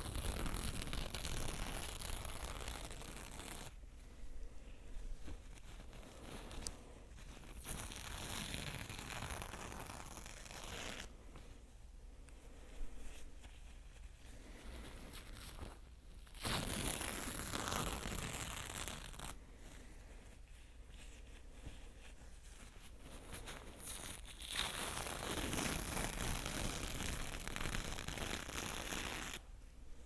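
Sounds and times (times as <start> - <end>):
close scratching and rubbing: 0.0 - 3.8, 4.8 - 11.2, 12.4 - 29.5.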